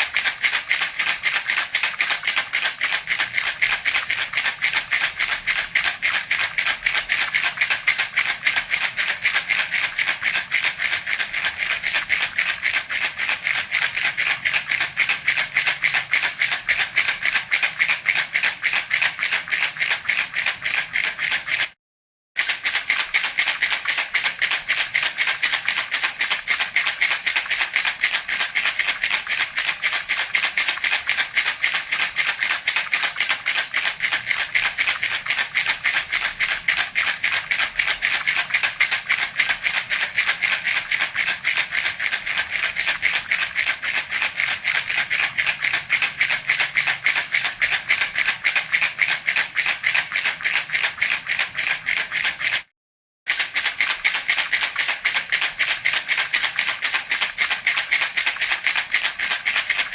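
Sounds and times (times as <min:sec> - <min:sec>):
baby rattle shaken: 0:00.0 - 0:21.8, 0:22.4 - 0:52.7, 0:53.3 - 0:59.9.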